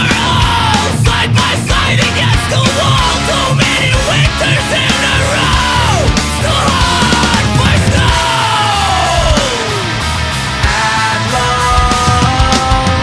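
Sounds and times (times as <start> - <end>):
punk rock band playing: 0.0 - 13.0.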